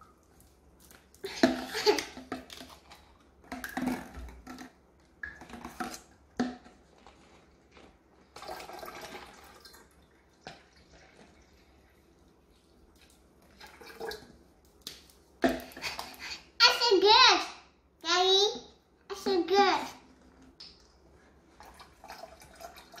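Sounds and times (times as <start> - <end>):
water pouring into a plastic jug: 0.0 - 16.4, 20.1 - 23.0.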